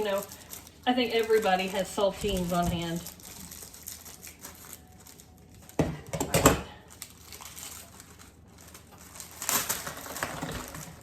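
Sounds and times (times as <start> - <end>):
plastic cracker sleeve crinkling: 0.0 - 5.8, 6.8 - 11.0.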